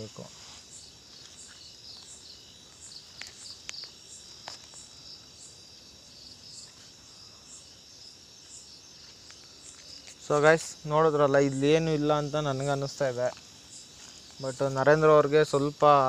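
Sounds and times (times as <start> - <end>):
crickets and insects trilling: 0.0 - 16.0.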